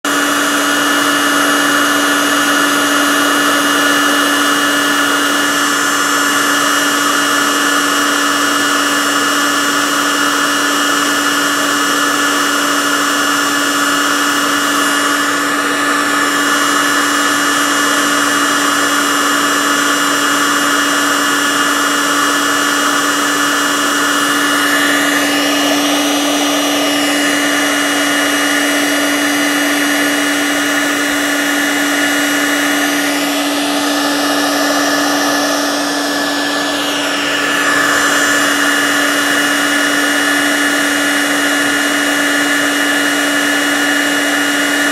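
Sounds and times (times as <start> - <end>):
heat gun motor hum: 0.1 - 44.9
rush of hot air: 0.1 - 44.9.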